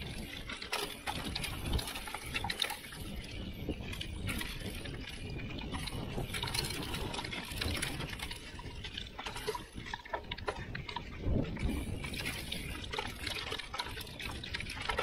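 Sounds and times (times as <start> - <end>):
bike clicks and rattles: 0.0 - 15.0.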